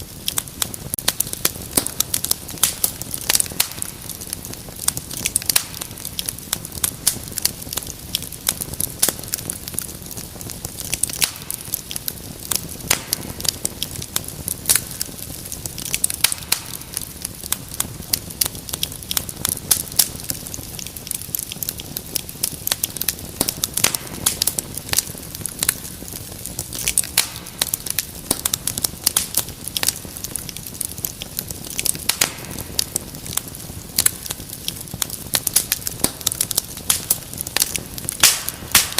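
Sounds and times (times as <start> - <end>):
flames rumbling: 0.0 - 38.9
wood fire crackling and popping: 0.0 - 38.9.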